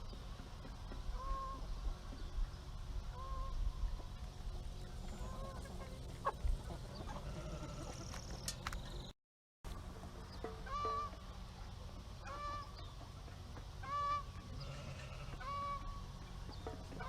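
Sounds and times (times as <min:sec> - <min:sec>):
chickens clucking: 0:00.0 - 0:08.6, 0:10.2 - 0:17.0.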